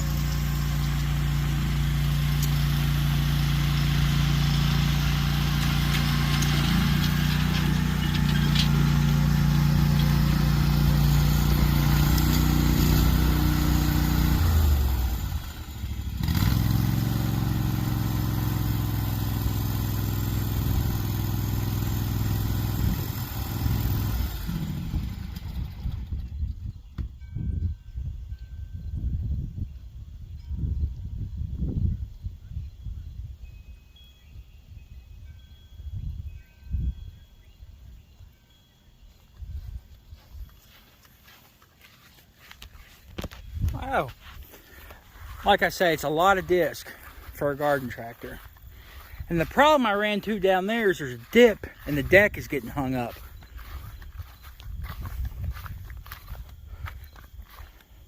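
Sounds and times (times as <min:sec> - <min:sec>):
garden tractor engine running: 0:00.0 - 0:27.4, 0:38.2 - 0:58.0.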